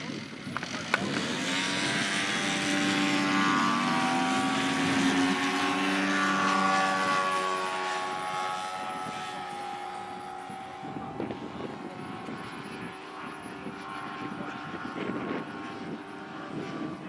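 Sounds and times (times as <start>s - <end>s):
model airplane propeller engines: 0.0s - 17.0s.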